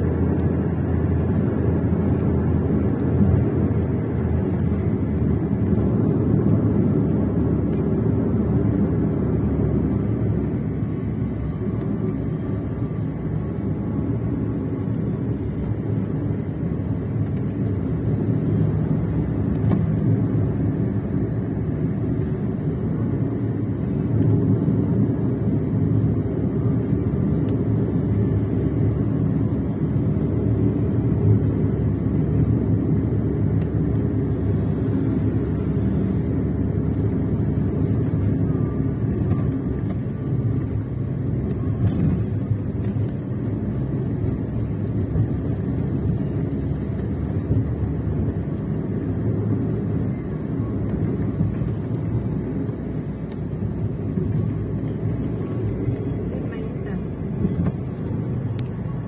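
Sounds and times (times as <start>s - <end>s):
vehicle road and engine rumble: 0.0s - 59.0s.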